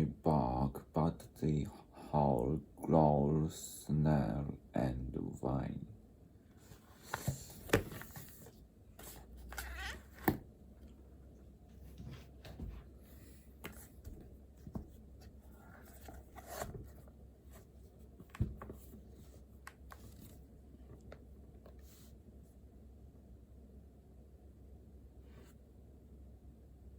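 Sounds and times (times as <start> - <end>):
low steady room hum: 0.0 - 26.9.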